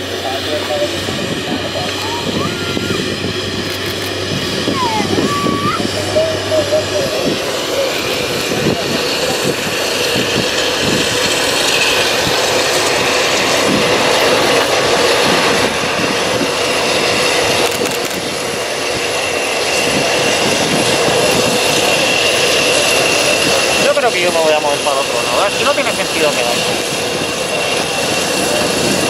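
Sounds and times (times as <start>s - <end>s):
high turbine whine: 0.0s - 29.0s
jet engine idling: 0.0s - 29.0s.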